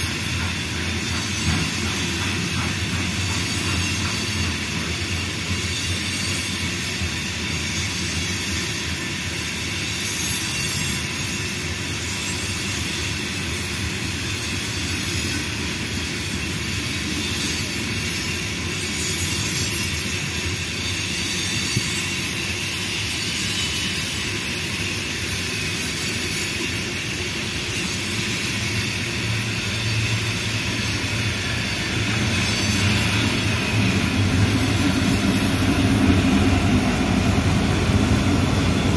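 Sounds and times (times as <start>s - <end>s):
diesel locomotive drone: 0.0s - 38.9s
high wheel squeal: 0.0s - 38.9s
train wheels rumbling on rails: 0.0s - 38.9s.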